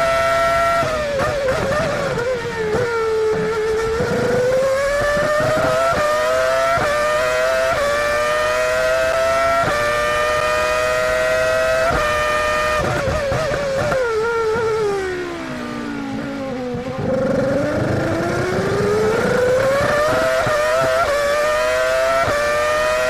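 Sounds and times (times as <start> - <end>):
racing car engine high-revving wail: 0.0 - 23.0.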